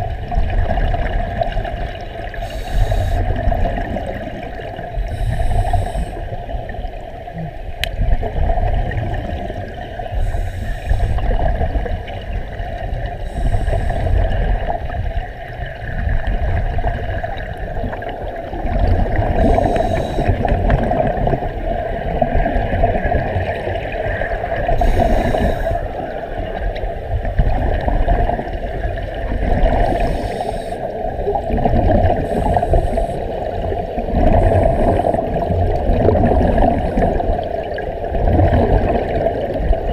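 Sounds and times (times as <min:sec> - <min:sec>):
gurgling water: 0:00.0 - 0:39.9
underwater low rumble: 0:00.0 - 0:39.9.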